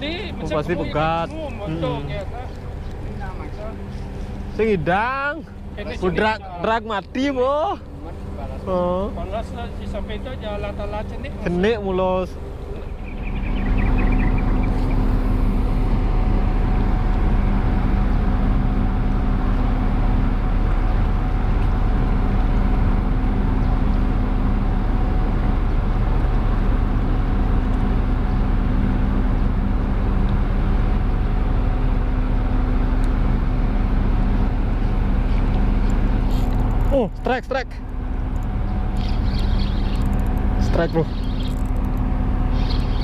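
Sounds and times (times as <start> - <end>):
engine droning steadily: 0.0 - 43.0
faint constant whine: 0.0 - 43.0.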